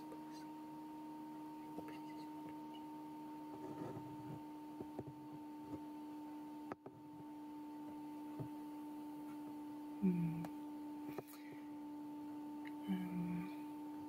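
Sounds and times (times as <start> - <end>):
electronic hum: 0.0 - 14.0.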